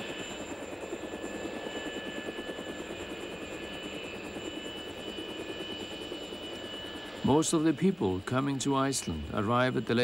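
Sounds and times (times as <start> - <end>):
helicopter rotor chop: 0.0 - 10.0
turbine whine: 0.0 - 10.0.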